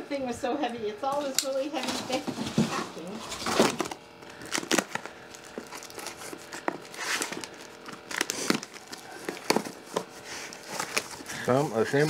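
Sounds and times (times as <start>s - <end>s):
cardboard rustling and crinkling: 1.7s - 12.0s.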